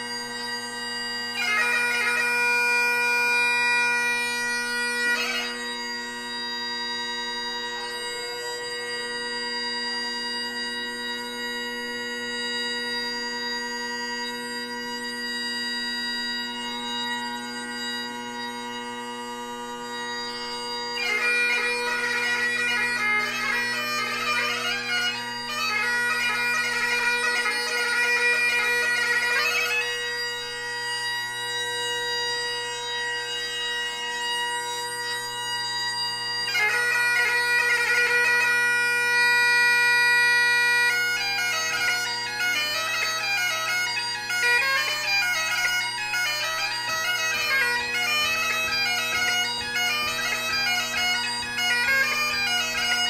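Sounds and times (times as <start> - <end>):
bagpipe chanter melody: 0.0 - 53.0
bagpipe drones: 0.0 - 53.0.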